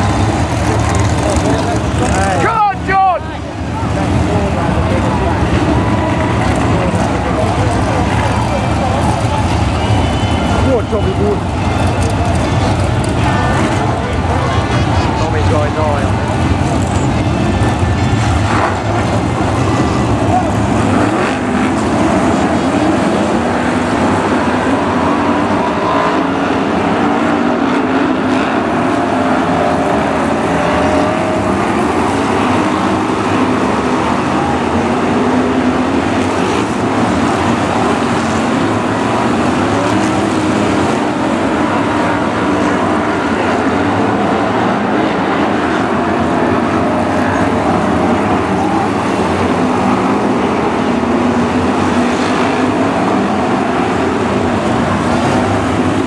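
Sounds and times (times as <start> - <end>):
stock car engines racing: 0.0 - 56.0.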